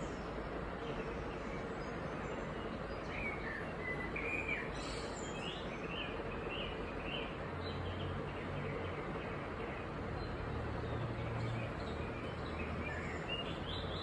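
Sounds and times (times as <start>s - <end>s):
background hiss: 0.0s - 14.0s
bird chirping: 0.0s - 14.0s.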